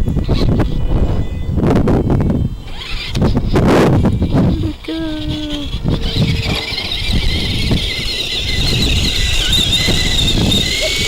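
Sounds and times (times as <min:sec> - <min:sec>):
high-pitched ducted fan whine: 0:00.0 - 0:11.0
wind rumbling on microphone: 0:00.0 - 0:11.0.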